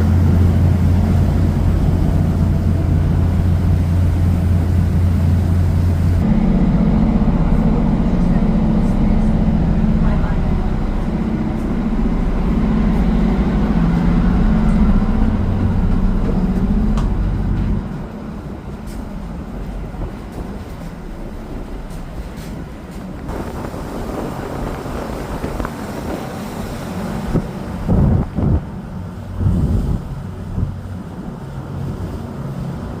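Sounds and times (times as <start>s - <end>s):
heavy engine rumbling: 0.0s - 33.0s.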